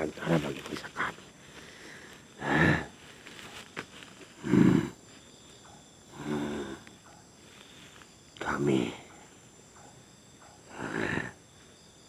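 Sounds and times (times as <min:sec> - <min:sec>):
wordless vocal sounds: 0:00.0 - 0:03.6, 0:04.3 - 0:05.0, 0:05.6 - 0:11.4.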